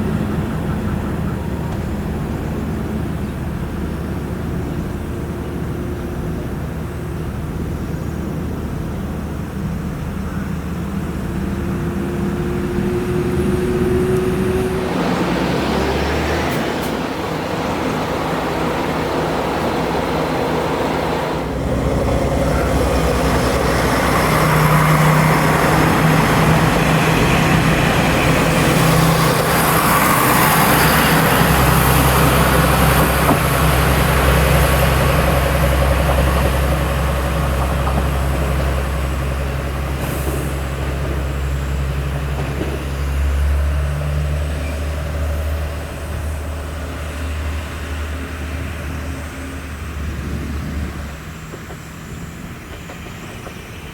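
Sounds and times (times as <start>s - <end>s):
diesel railcar engine droning: 0.0s - 53.9s.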